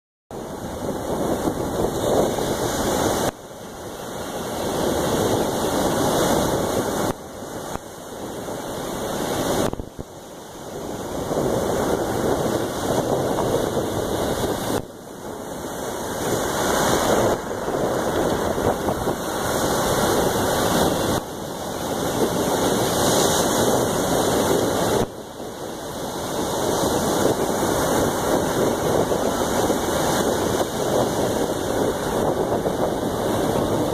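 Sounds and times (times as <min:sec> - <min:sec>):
wind on microphone: 0:00.3 - 0:33.9
ocean surf on pebble beach: 0:00.4 - 0:33.9.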